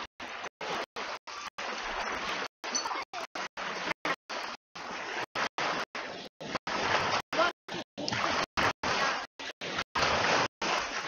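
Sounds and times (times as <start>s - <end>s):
waves lapping at a sandy shore: 0.0s - 11.0s.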